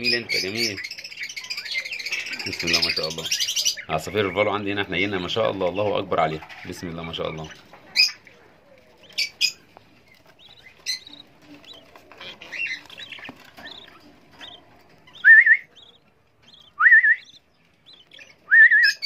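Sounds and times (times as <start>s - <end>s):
budgerigars chirping: 0.0s - 19.0s
loud wavering bird calls: 0.0s - 19.0s.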